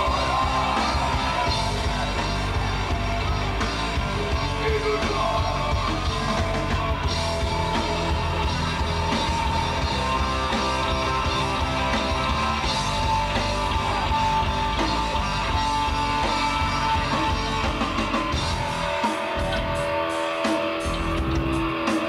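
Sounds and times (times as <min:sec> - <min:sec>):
bass guitar: 0:00.0 - 0:22.0
drums: 0:00.0 - 0:22.0.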